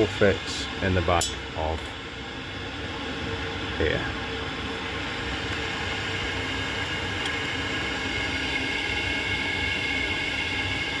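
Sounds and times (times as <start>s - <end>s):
boiler fan and burner hiss: 0.0s - 11.0s
faint high whine: 0.0s - 11.0s.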